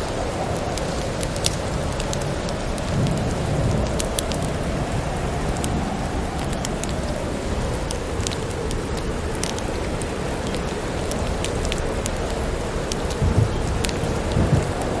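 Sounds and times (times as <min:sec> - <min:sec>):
distant thunder rumble: 0:00.0 - 0:15.0
sharp crackles: 0:00.0 - 0:15.0
steady rain: 0:00.0 - 0:15.0.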